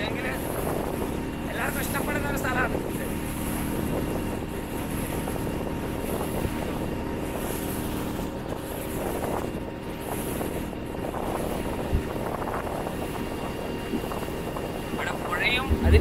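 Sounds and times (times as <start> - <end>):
motorboat engine running: 0.0 - 16.0
wind noise on microphone: 0.0 - 16.0.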